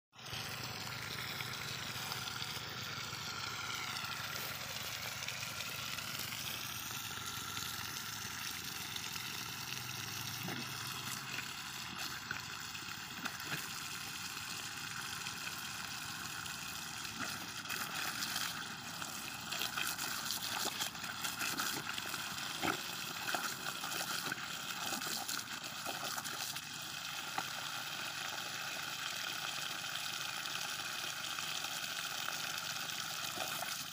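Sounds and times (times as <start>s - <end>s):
water spurting from pipe leak: 0.2s - 33.9s.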